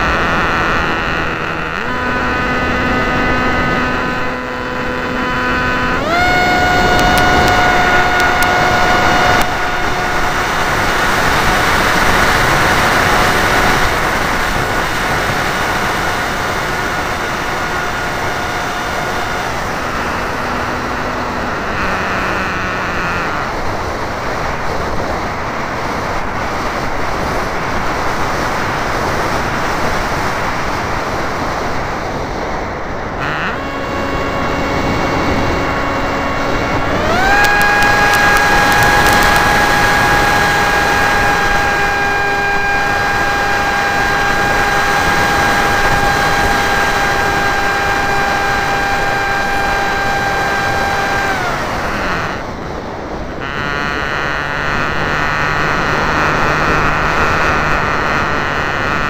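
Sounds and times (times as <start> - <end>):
airflow rushing over microphone: 0.0 - 59.0
model airplane motor whine: 0.0 - 59.0.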